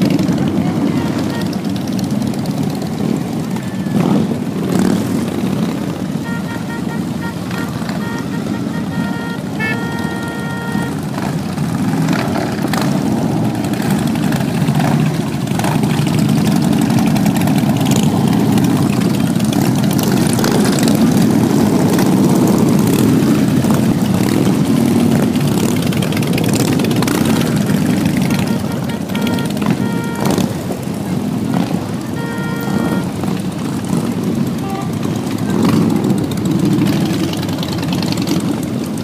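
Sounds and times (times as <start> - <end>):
motorcycles rumbling past: 0.0 - 39.0.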